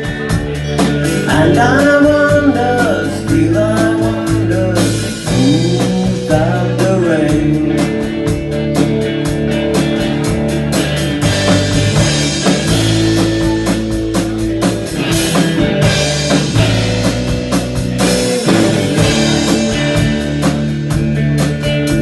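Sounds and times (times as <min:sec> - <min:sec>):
bass guitar: 0:00.0 - 0:22.0
drum kit beat: 0:00.0 - 0:22.0
electric guitar: 0:00.0 - 0:22.0.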